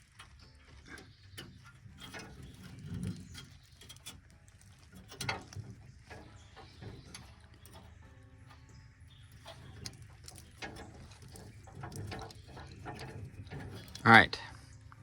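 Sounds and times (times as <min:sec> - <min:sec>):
wire scraping inside metal tank: 0:00.8 - 0:14.8.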